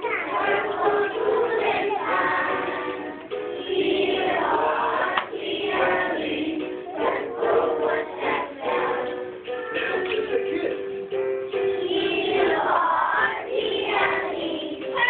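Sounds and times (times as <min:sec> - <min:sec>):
children singing in unison: 0:00.0 - 0:10.4, 0:11.7 - 0:15.0.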